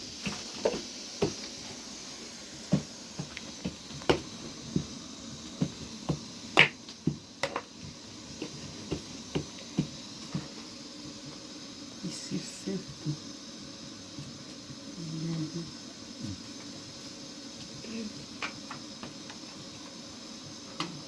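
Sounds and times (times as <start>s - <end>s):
low hiss: 0.0s - 21.0s.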